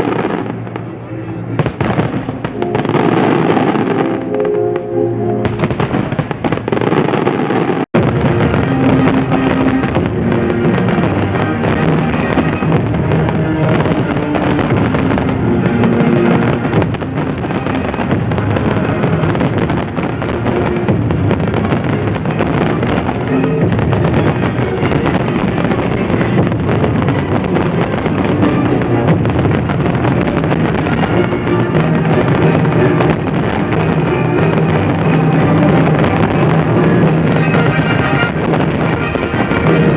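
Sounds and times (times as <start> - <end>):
fireworks bursting and crackling: 0.0 - 39.9
music playing: 0.0 - 39.9.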